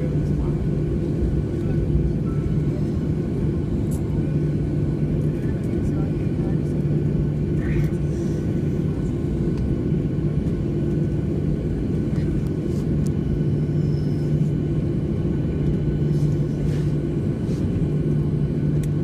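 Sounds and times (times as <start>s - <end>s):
jet engines idling rumble: 0.0s - 19.0s.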